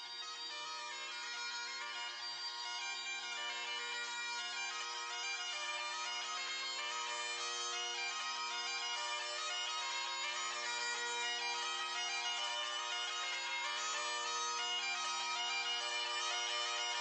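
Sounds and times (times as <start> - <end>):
bagpipe drones: 0.0 - 17.0
bagpipe melody: 0.0 - 17.0.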